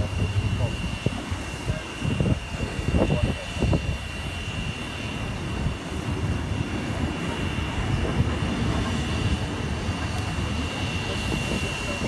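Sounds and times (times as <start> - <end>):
steam locomotive rumble and hiss: 0.0 - 12.0.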